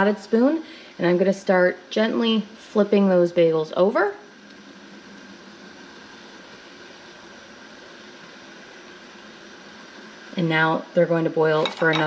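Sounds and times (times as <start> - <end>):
pot of water boiling: 0.0 - 12.0.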